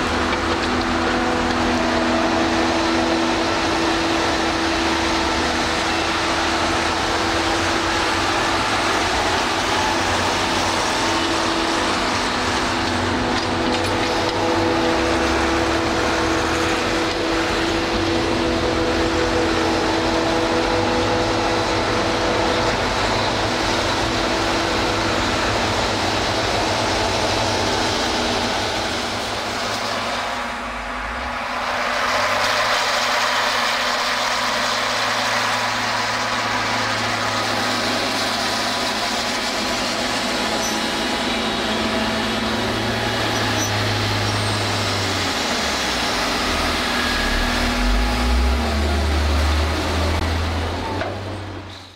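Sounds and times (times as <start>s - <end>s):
tractor engine low drone: 0.0s - 51.9s.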